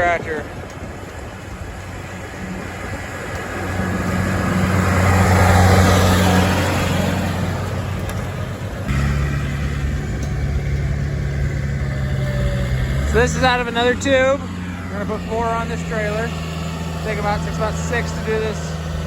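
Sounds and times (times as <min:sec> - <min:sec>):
tractor engines running: 0:00.0 - 0:19.0.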